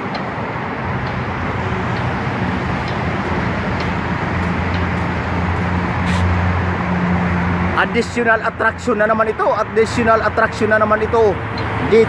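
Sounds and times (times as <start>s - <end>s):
road traffic noise: 0.0s - 12.0s
vehicle engine hum approaching: 0.0s - 12.0s.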